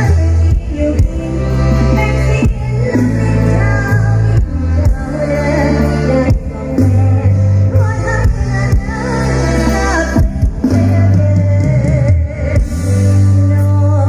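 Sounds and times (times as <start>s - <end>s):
amplified band with heavy bass: 0.0s - 14.0s.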